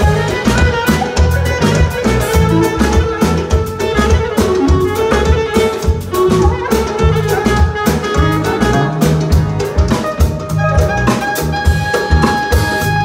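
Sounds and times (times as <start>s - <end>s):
clarinet melody: 0.0s - 13.0s
live band music: 0.0s - 13.0s.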